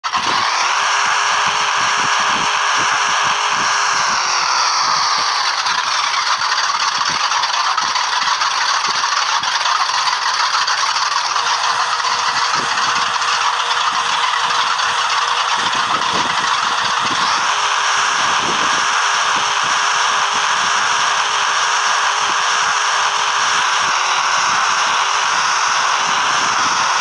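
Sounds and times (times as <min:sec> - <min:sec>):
drag car engine running loud: 0:00.0 - 0:27.0.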